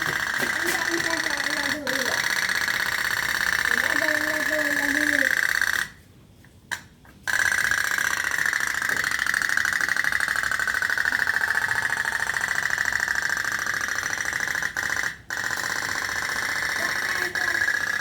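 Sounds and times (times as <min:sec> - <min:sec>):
putt-putt boat engine pulsing: 0:00.0 - 0:06.0, 0:07.2 - 0:18.0.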